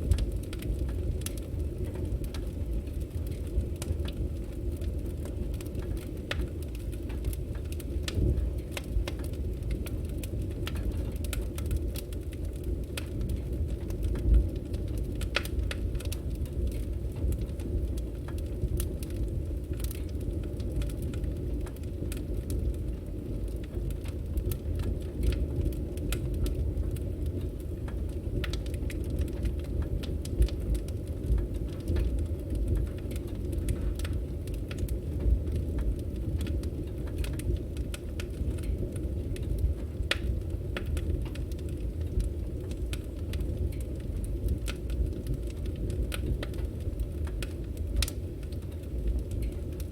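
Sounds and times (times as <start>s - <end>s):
firewood burning and crackling: 0.0s - 49.9s.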